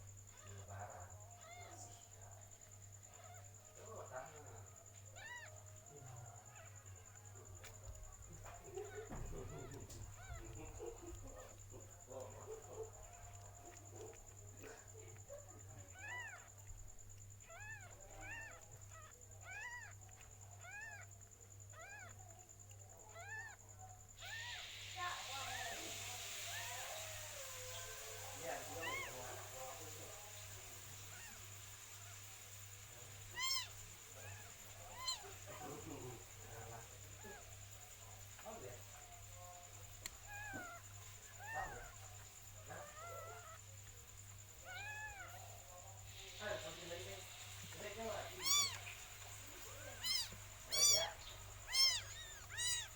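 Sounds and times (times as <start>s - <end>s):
faint steady hum: 0.0s - 52.9s
cat mewing: 0.3s - 23.6s, 24.2s - 52.9s.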